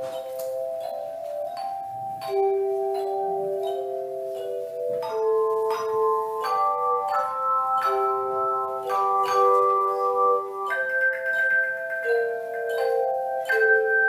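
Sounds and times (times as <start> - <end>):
tone chimes playing melody: 0.0 - 14.0.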